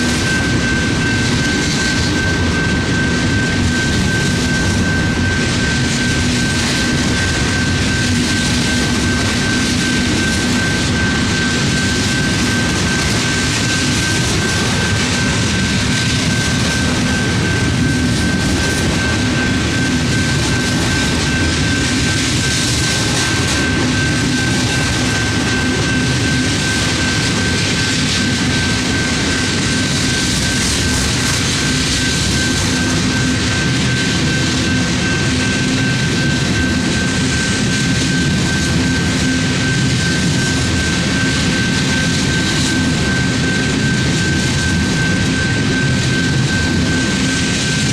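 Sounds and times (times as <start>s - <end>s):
train wheels rushing on rails: 0.0s - 47.9s.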